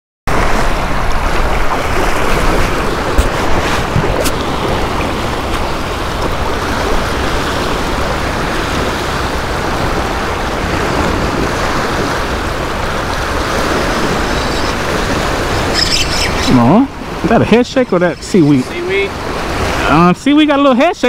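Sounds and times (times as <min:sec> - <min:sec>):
wind rumbling on microphone: 0:00.3 - 0:20.2
choppy sea water rushing: 0:00.3 - 0:21.0.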